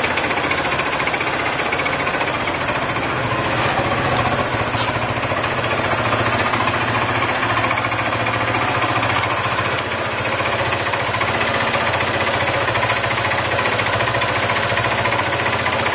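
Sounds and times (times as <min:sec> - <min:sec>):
metallic engine clatter: 0:00.0 - 0:15.9
motorcycle engine running: 0:00.0 - 0:15.9.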